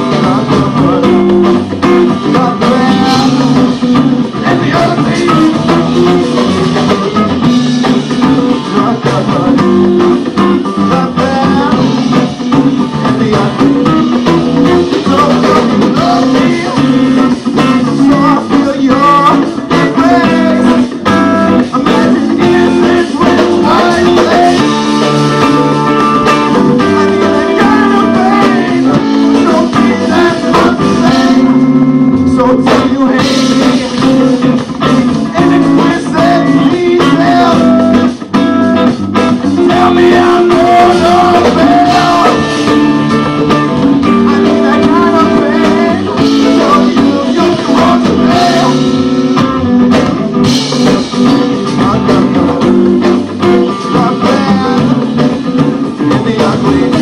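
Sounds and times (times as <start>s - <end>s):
amplified electric guitars: 0.0s - 57.0s
congas: 0.0s - 57.0s
drum kit: 0.0s - 57.0s.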